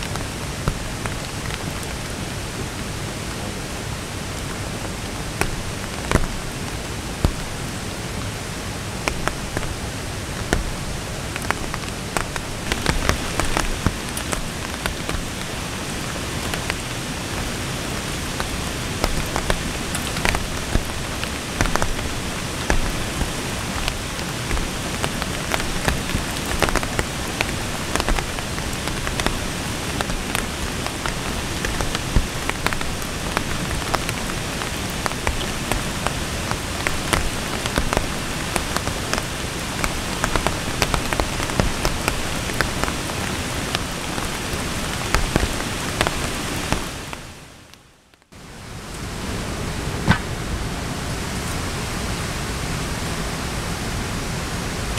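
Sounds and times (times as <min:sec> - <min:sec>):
raindrops striking sharply: 0:00.0 - 0:48.3, 0:48.9 - 0:51.8
heavy rain falling: 0:00.0 - 0:54.9.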